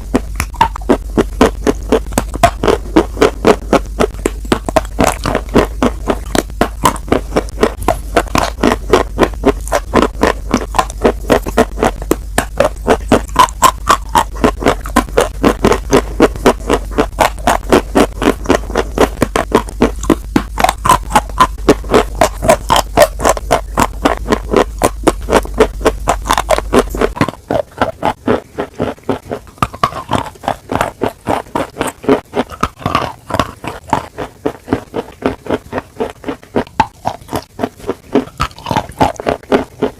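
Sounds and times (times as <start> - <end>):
low hum: 0.0 - 39.3
crunchy chewing: 0.0 - 39.9.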